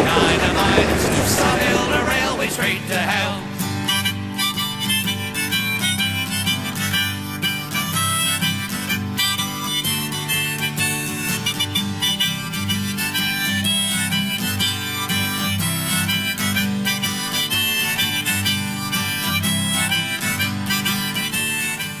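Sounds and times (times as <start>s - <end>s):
harmonica melody: 0.0s - 22.0s
strummed guitar: 0.0s - 22.0s.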